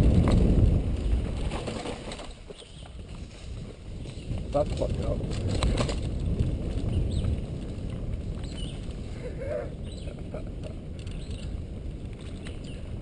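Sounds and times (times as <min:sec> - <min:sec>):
bike rattling over bumps: 0:00.0 - 0:13.0
bike tyres rumbling on dirt: 0:00.0 - 0:13.0.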